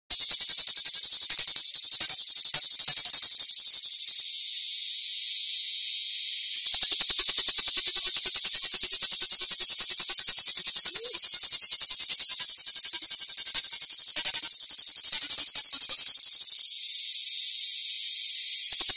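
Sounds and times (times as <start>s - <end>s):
cicada buzzing: 0.1s - 18.9s.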